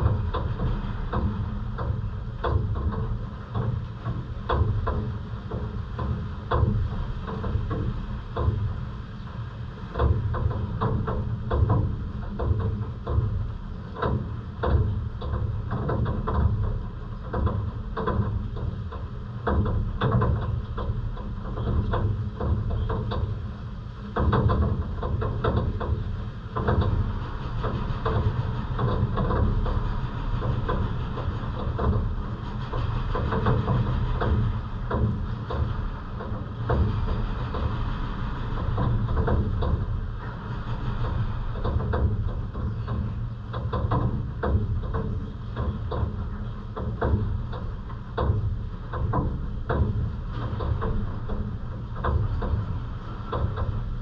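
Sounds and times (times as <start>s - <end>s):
heavy rain on hard surface: 0.0s - 54.0s.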